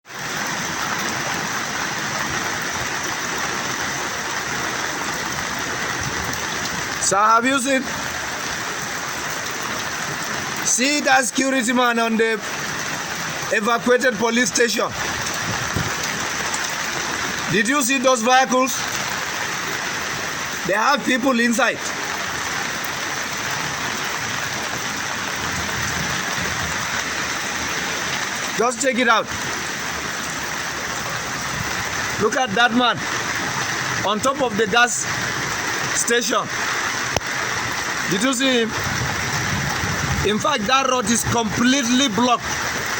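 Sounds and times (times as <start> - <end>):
rushing floodwater: 0.0 - 42.9.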